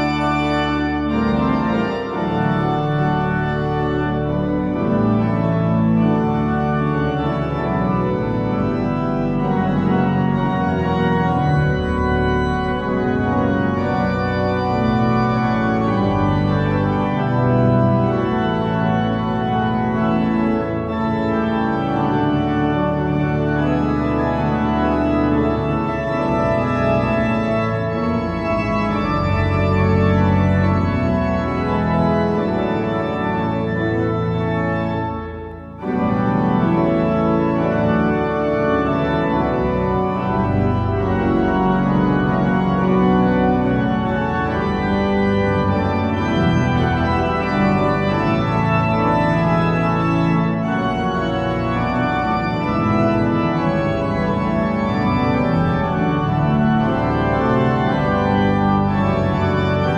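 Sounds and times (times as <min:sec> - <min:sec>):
pipe organ playing loud chords: 0:00.0 - 0:59.9.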